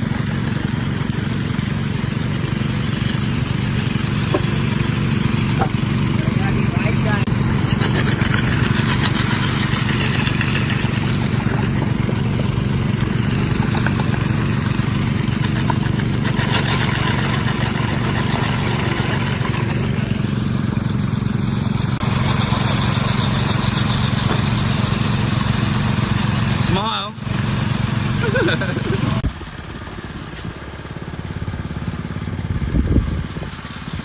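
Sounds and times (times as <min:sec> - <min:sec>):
engine running steadily: 0:00.0 - 0:34.0.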